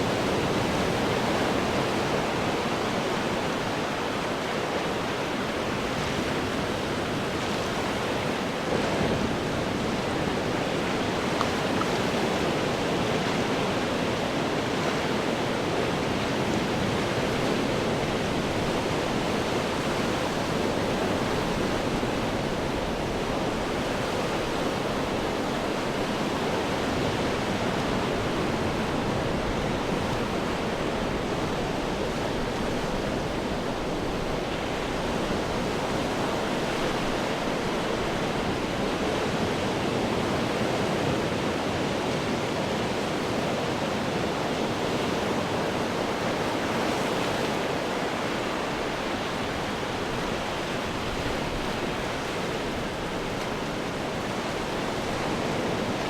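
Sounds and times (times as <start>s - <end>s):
ocean surf breaking on rocks: 0.0s - 56.0s.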